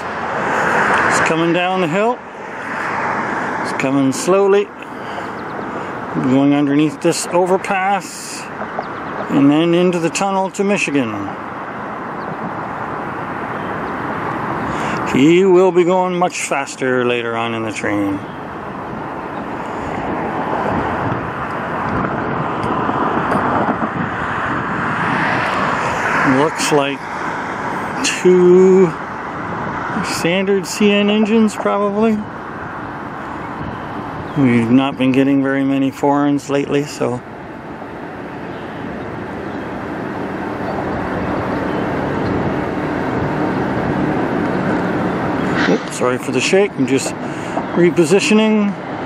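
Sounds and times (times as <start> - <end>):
diesel locomotive engines droning: 0.0 - 24.7, 25.8 - 49.0.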